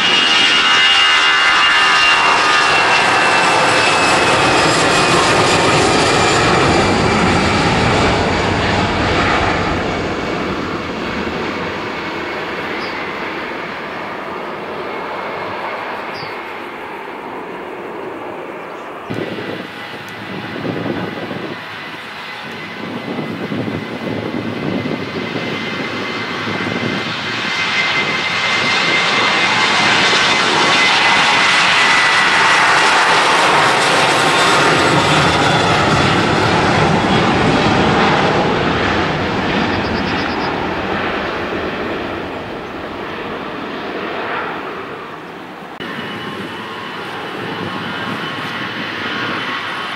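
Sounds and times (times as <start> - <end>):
another jet departing: 0.0 - 49.9
jet taking off: 0.0 - 49.9.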